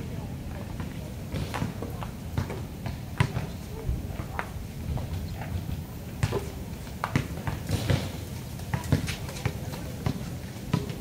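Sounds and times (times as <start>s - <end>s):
footsteps on court: 0.8s - 11.0s.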